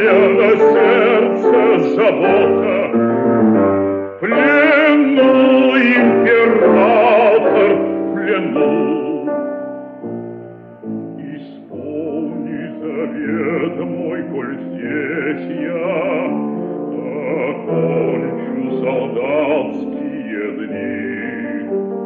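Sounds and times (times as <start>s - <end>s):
bass voice singing: 0.0s - 3.4s, 4.1s - 9.5s, 11.0s - 21.8s
piano accompaniment: 0.0s - 22.0s.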